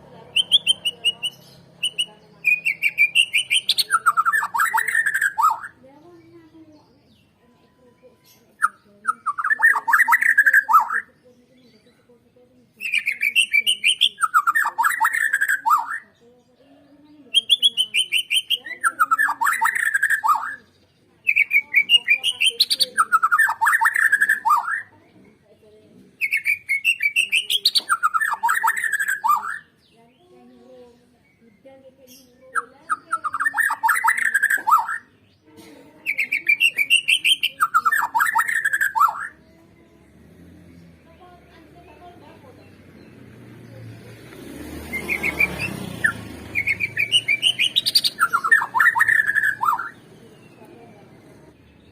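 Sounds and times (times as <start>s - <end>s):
bird singing song phrase: 0.0s - 51.9s.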